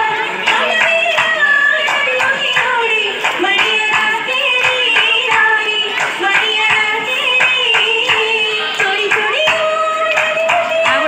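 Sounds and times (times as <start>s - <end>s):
women singing: 0.0s - 11.0s
sharp hand claps: 0.4s - 11.0s.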